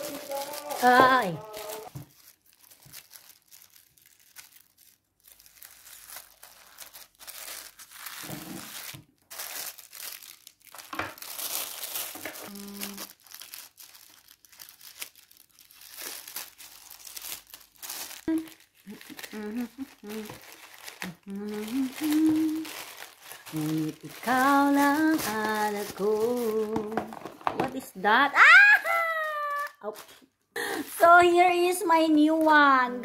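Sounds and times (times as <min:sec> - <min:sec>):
plastic mailer bag crinkling: 0:00.0 - 0:27.8, 0:31.0 - 0:33.0.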